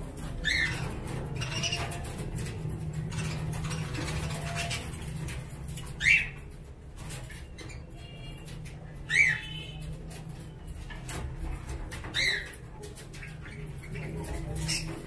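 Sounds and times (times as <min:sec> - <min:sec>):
caged birds calling: 0:00.0 - 0:15.0
faint bird chirping: 0:00.2 - 0:15.0.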